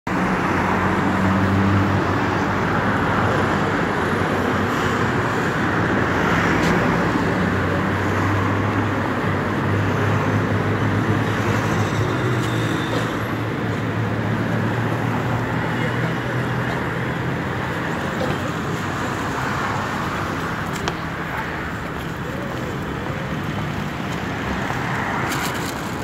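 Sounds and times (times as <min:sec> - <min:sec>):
background traffic noise: 0:00.1 - 0:26.0
vehicle engines humming: 0:00.1 - 0:26.0.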